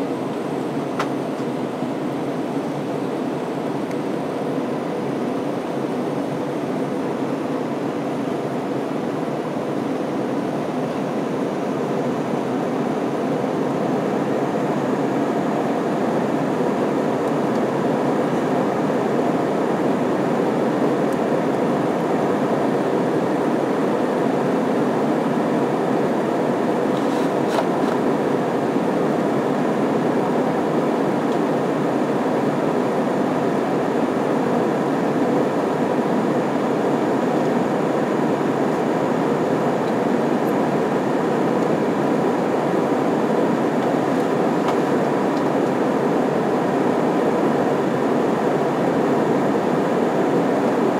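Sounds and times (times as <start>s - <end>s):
airplane cabin engine noise: 0.0s - 50.9s.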